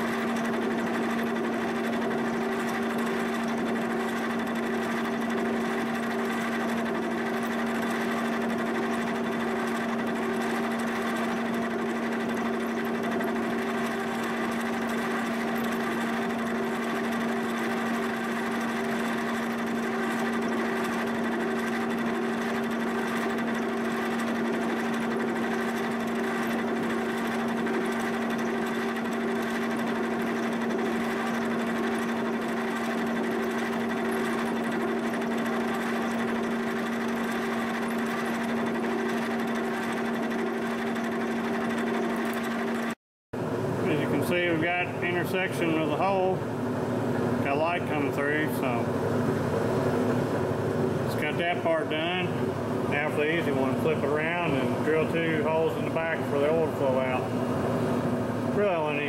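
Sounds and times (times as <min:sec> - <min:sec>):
boring mill machine hum: 0:00.0 - 0:59.0.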